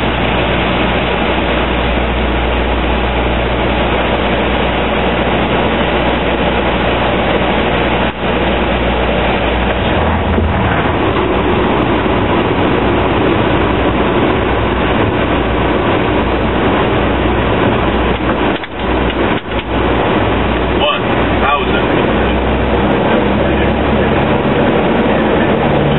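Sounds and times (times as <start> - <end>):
loud rushing noise: 0.0 - 25.9
low propeller hum: 0.0 - 25.9.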